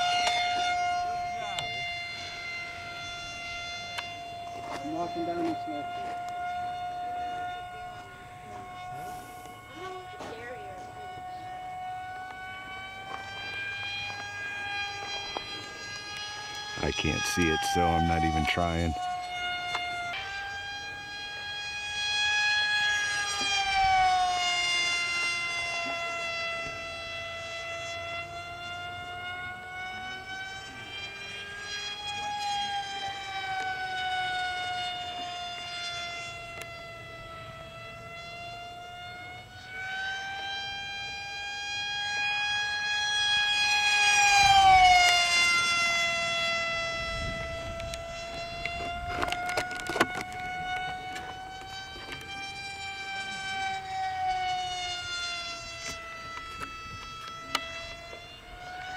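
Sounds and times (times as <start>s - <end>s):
model airplane motor whine: 0.0s - 58.9s.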